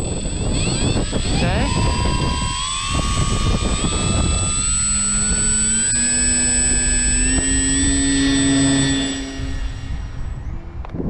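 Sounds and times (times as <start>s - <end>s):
electric motor and propeller whining: 0.0s - 11.0s
wind rumble on microphone: 0.0s - 11.0s.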